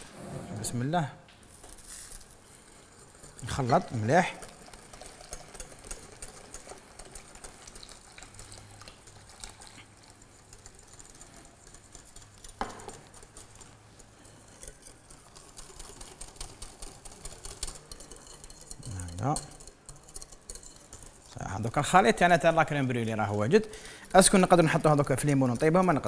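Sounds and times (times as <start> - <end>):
whisk ticking against glass bowl: 3.0 - 26.0.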